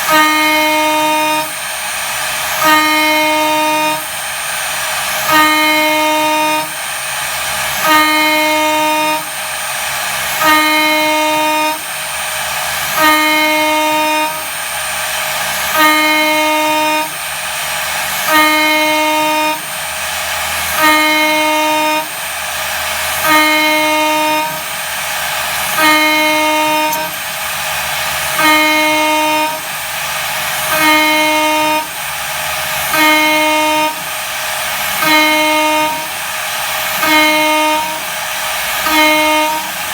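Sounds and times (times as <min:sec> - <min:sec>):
end mill cutting aluminium whine: 0:00.0 - 0:39.9.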